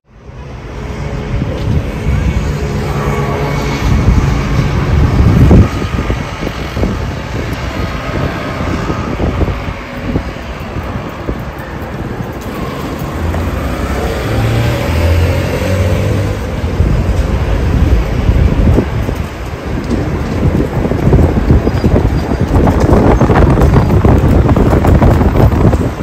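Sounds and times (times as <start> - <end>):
vehicle engine drone: 0.0 - 26.0
cars passing: 0.1 - 26.0
wind on microphone: 0.2 - 26.0.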